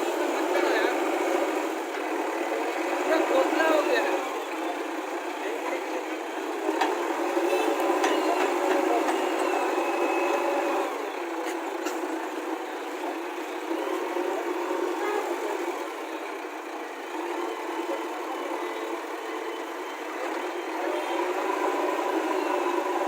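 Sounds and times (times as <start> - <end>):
diesel engine working: 0.0 - 23.0.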